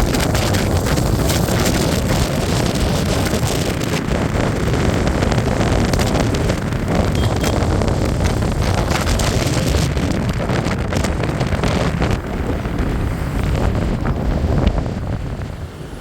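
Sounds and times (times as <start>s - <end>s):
motorcycle road and engine rumble: 0.0s - 16.0s
wind buffeting microphone: 0.0s - 16.0s.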